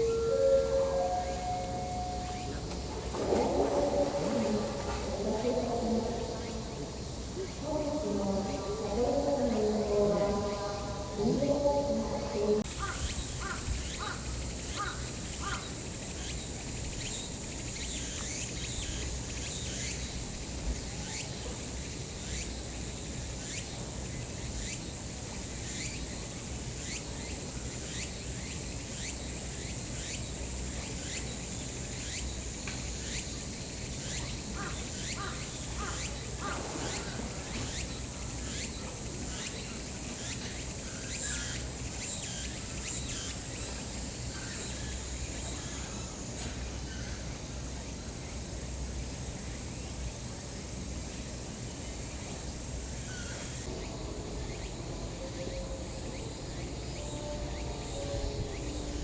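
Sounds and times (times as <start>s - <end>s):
insects pulsing hiss: 0.0s - 59.0s
short repeated insect calls: 0.0s - 59.0s.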